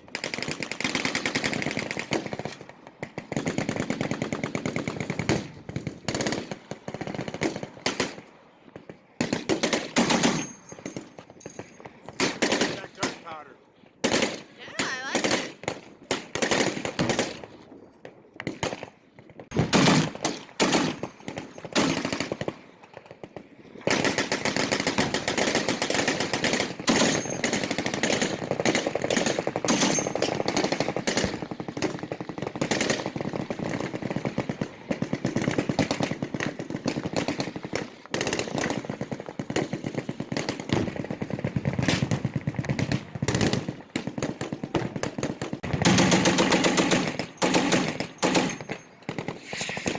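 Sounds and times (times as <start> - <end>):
automatic machine-gun fire: 0.0 - 8.2, 9.2 - 11.0, 12.2 - 13.4, 19.5 - 23.2, 23.8 - 49.9.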